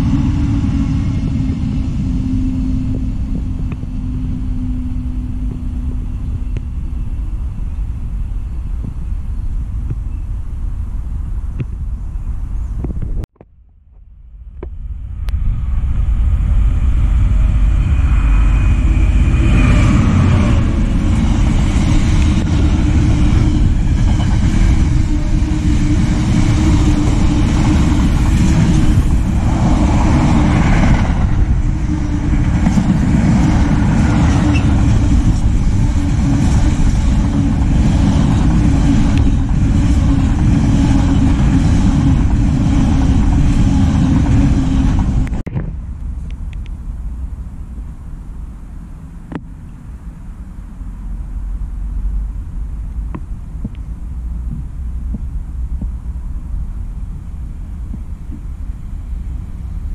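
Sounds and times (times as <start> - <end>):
freight train passing: 0.0 - 12.7, 14.2 - 49.2, 49.8 - 59.9.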